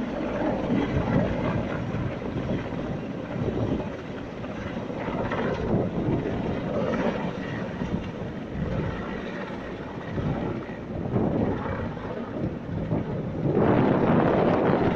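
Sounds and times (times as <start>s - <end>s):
helicopter engine and rotor: 0.0s - 14.9s.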